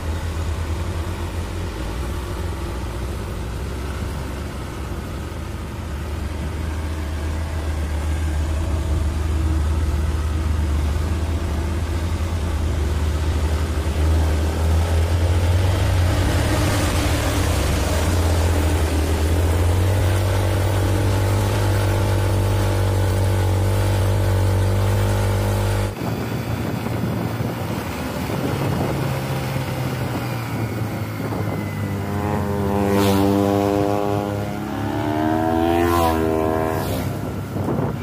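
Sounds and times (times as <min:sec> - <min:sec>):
engine revving: 0:00.0 - 0:26.2, 0:27.2 - 0:38.0
road noise: 0:00.0 - 0:38.0
truck diesel engine droning: 0:00.0 - 0:38.0.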